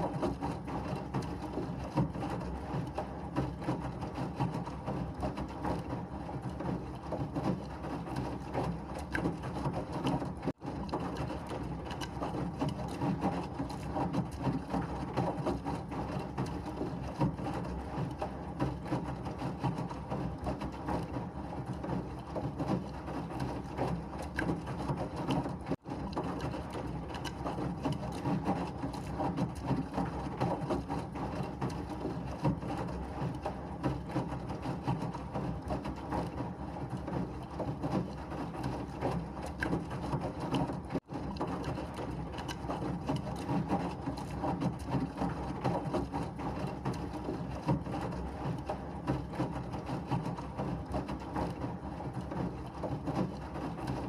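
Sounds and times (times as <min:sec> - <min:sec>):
washing machine churning: 0:00.0 - 0:54.0.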